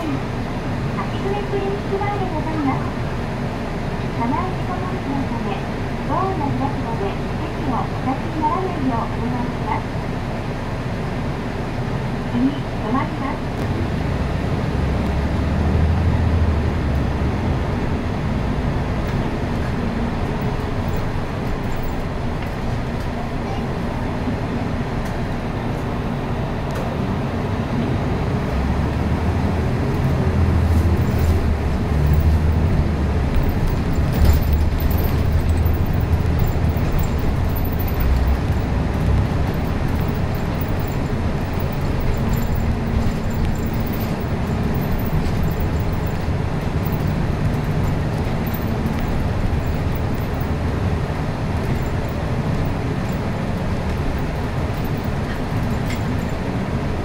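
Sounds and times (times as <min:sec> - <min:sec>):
bus engine running: 0:00.0 - 0:57.0
road noise: 0:00.0 - 0:57.0.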